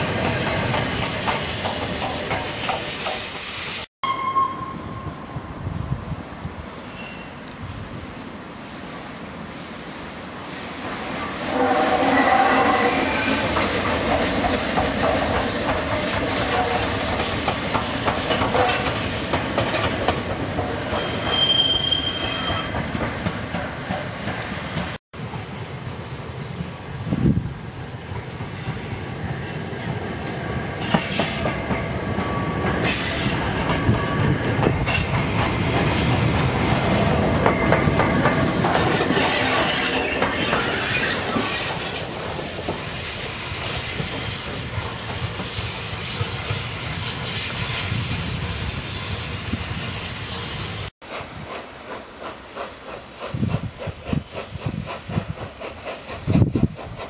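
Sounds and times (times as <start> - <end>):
steam locomotive running: 0.0 - 3.9, 10.5 - 57.0.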